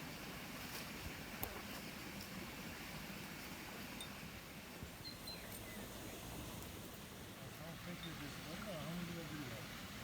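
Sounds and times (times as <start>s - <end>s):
faint outdoor ambience: 0.0s - 10.0s.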